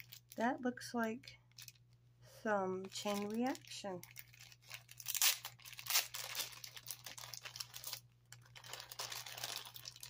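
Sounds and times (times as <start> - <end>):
plastic bag crinkling: 0.0 - 0.5, 1.5 - 1.9, 2.8 - 10.0.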